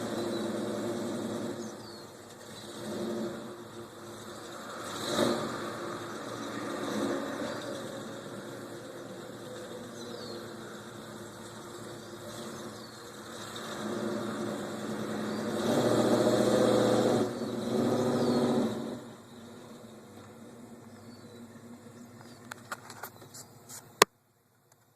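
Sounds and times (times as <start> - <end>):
engine throttle bursts: 0.0 - 22.0
car engine running unevenly: 0.0 - 23.3.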